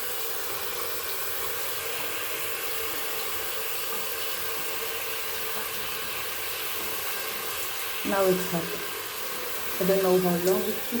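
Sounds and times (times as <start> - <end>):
water running from heater outlet: 0.0 - 11.0.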